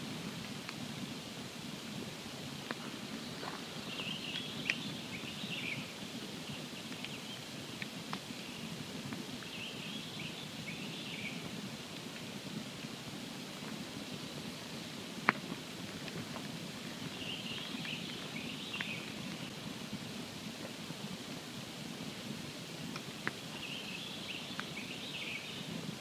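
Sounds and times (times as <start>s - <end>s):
campfire rumble and crackling: 0.0s - 26.0s.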